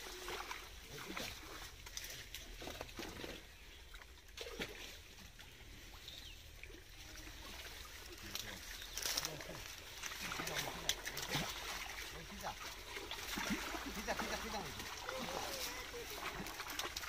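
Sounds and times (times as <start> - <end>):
small splashes in shallow water: 0.0 - 17.0.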